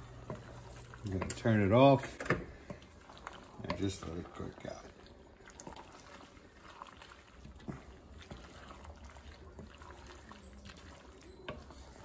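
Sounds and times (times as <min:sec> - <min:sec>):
wet stirring of pasta: 0:00.0 - 0:12.0.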